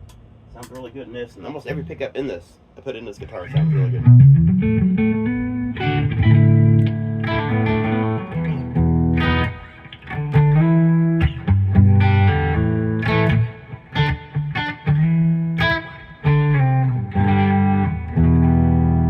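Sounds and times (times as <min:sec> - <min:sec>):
overdriven electric guitar: 0:03.5 - 0:19.0.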